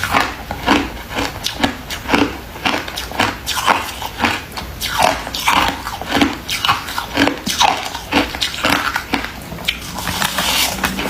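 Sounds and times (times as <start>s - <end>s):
ice crunching being chewed: 0.0s - 11.0s.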